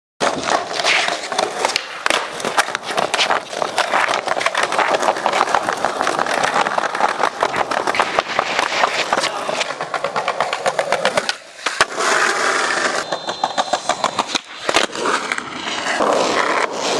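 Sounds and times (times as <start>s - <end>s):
skateboard clicks and clacks: 0.2s - 16.9s
skateboard wheels rolling on concrete: 0.2s - 16.9s.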